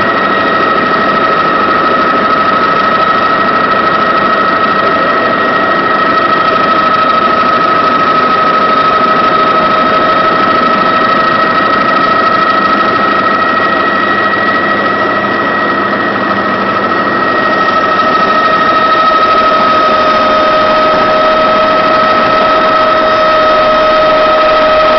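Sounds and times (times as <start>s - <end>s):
helicopter engine and rotor noise: 0.0s - 24.9s
high whine: 0.0s - 24.9s.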